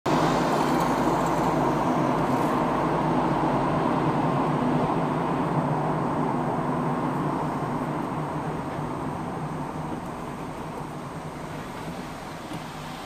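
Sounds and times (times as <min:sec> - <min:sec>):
car engine and tyre road noise: 0:00.0 - 0:13.0.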